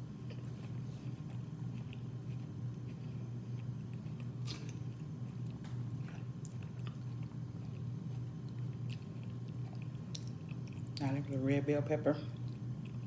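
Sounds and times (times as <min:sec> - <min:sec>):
steady low hum: 0:00.0 - 0:13.0
chewing and biting food: 0:00.2 - 0:11.1, 0:12.4 - 0:13.0.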